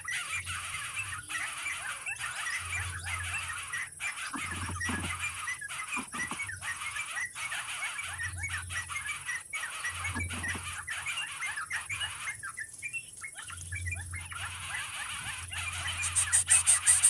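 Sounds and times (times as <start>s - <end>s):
rapid high chirping: 0.0s - 17.0s.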